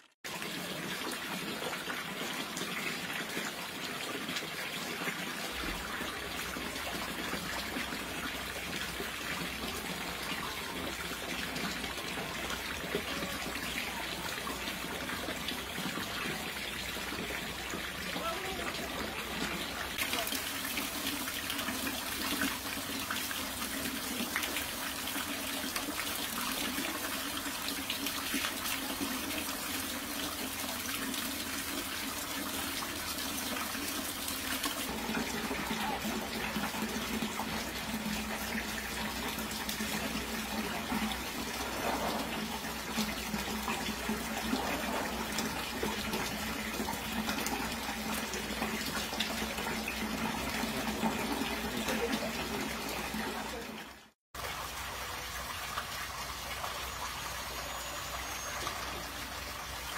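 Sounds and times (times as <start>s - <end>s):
water pouring and splashing on stone: 0.0s - 59.9s.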